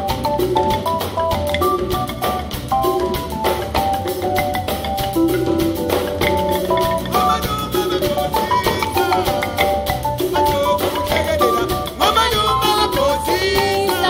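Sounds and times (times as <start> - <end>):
drum kit: 0.0 - 14.0
low bass: 0.0 - 14.0
marimba quick runs: 0.0 - 14.0.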